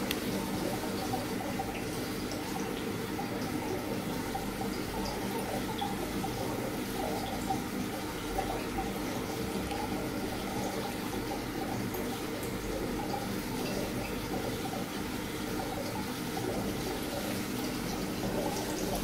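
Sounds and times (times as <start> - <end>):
low hum of pumps: 0.0 - 19.0
water gurgling and trickling: 0.0 - 19.0.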